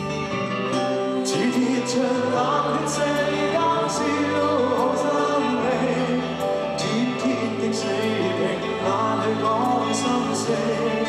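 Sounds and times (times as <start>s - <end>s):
live band playing ballad: 0.0s - 11.0s
person singing: 0.0s - 11.0s.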